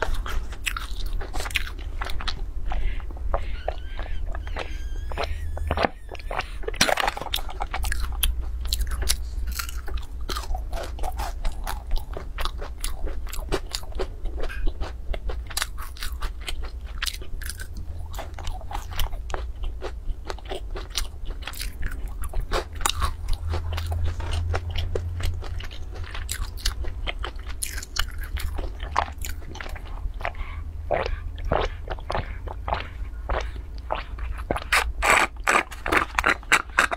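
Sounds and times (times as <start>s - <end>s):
crunching and chewing crispy snack: 0.0s - 36.9s.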